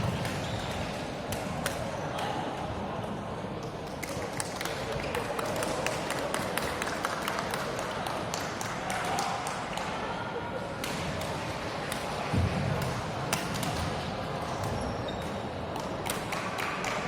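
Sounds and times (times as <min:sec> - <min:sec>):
murmur of spectators' voices: 0:00.0 - 0:17.0.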